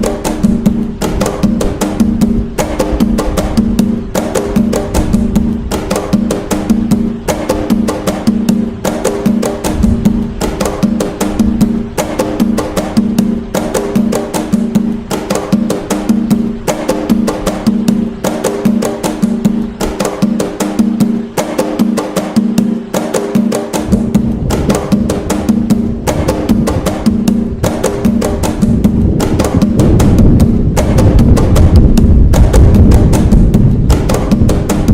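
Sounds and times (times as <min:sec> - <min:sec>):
hand drums playing fast rhythm: 0:00.0 - 0:34.9.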